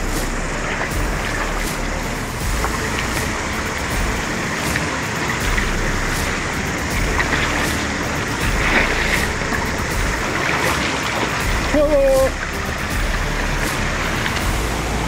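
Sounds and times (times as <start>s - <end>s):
river water rushing through rapids: 0.0s - 15.0s.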